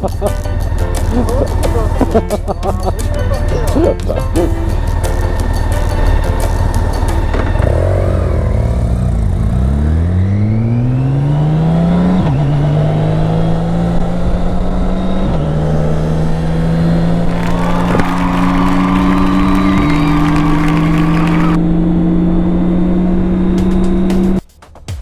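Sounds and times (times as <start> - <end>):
motorcycle engine accelerating: 0.0 - 24.4.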